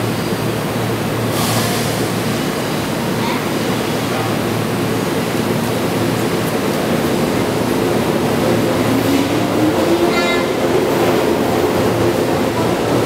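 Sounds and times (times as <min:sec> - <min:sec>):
electric train humming: 0:02.0 - 0:13.0.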